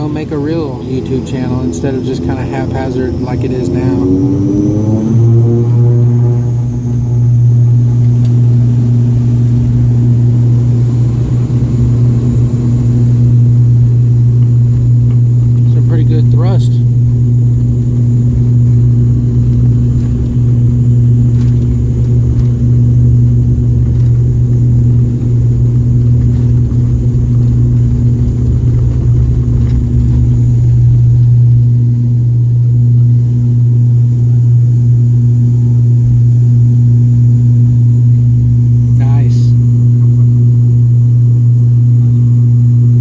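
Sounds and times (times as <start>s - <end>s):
jet engines droning in cabin: 0.0s - 43.0s.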